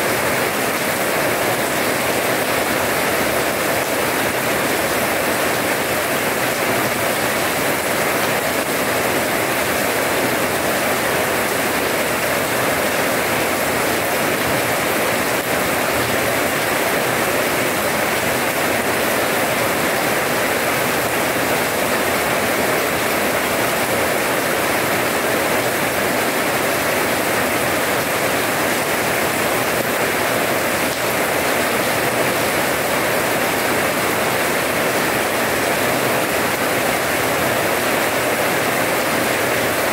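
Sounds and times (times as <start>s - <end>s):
heavy rain on wet paving: 0.0s - 39.9s.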